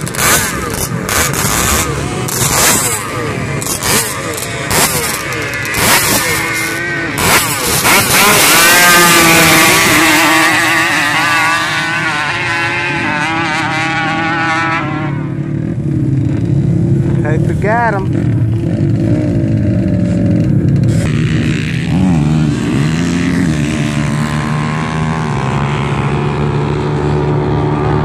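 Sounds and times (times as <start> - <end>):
quad engines revving: 0.0 - 28.0.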